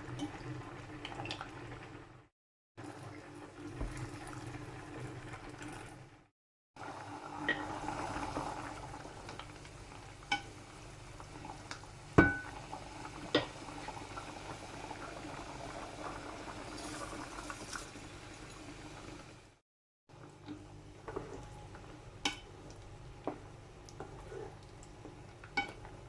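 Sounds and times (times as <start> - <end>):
pot of food bubbling: 0.0 - 19.6, 20.2 - 26.0.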